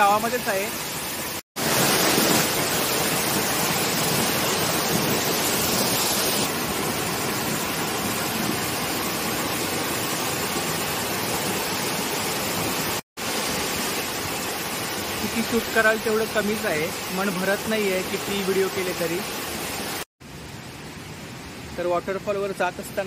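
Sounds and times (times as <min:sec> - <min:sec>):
waterfall splashing: 0:00.0 - 0:20.1.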